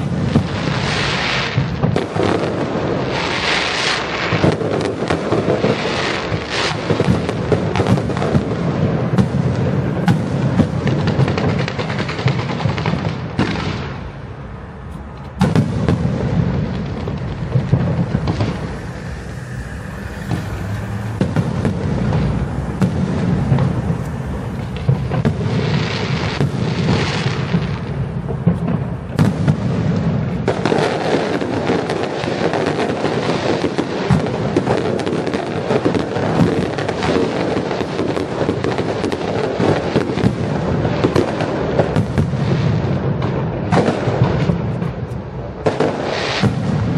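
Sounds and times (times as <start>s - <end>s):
fireworks bangs and booms: 0.0s - 46.9s
fireworks crackling: 0.0s - 46.9s.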